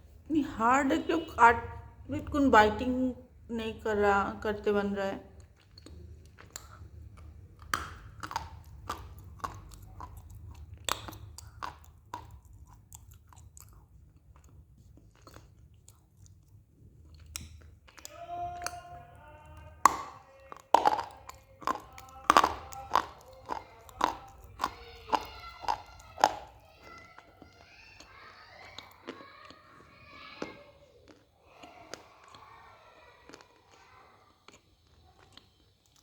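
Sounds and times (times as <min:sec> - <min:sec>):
clay lumps crunching when chewed: 0:05.2 - 0:36.0.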